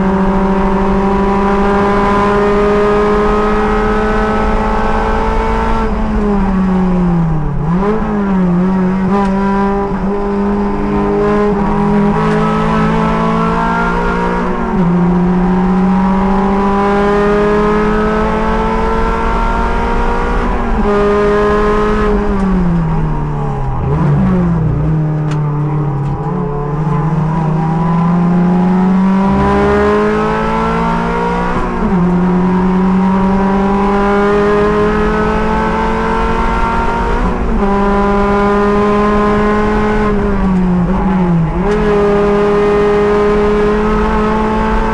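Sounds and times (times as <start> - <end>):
race car engine: 0.0 - 44.9.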